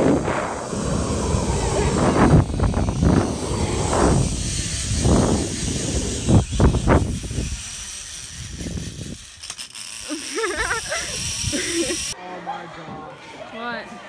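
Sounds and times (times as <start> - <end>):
zip line trolley whirring: 0.0 - 12.2.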